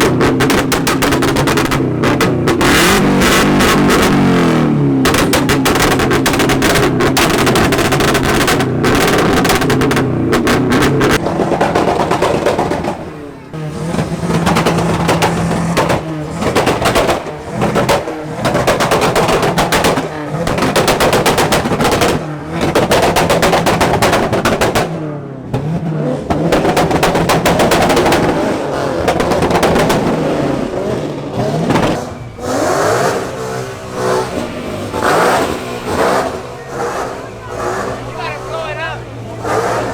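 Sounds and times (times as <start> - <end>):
car engines revving hard: 0.0 - 39.9
exhaust crackling and popping: 0.0 - 39.9.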